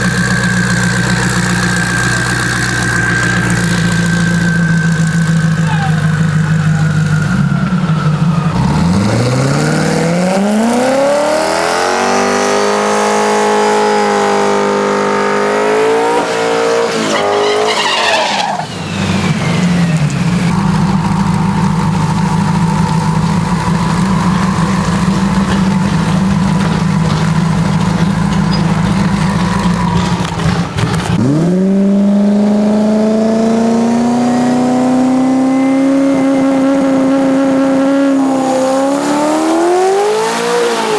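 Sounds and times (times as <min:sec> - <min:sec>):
truck engine accelerating hard: 0:00.0 - 0:40.9.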